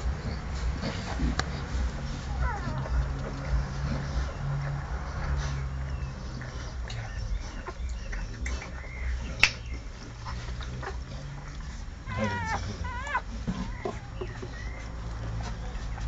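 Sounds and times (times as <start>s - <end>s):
puppies squealing: 0.0s - 16.0s.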